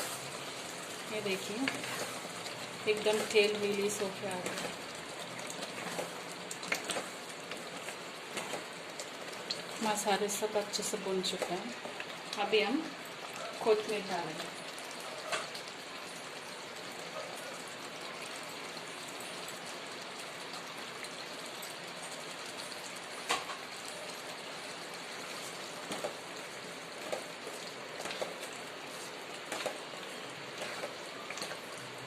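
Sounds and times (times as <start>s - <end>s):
curry sizzling in oil: 0.0s - 32.0s.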